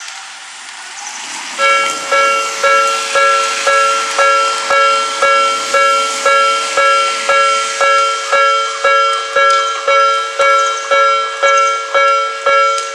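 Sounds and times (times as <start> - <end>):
background hiss: 0.1 - 12.9
level-crossing alarm ringing: 1.6 - 12.9.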